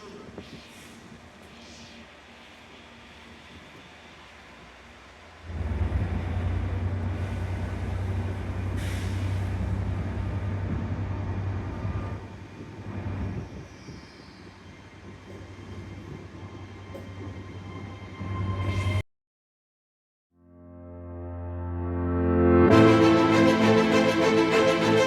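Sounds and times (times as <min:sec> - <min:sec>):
train rumbling: 0:00.0 - 0:18.6, 0:22.7 - 0:25.0.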